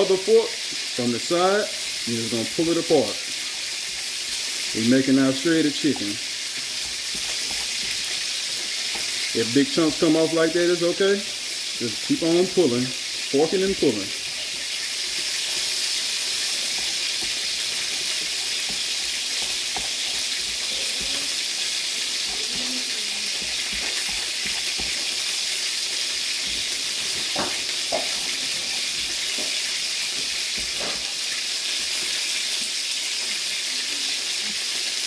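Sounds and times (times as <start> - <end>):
oil sizzling in a skillet: 0.0 - 35.0.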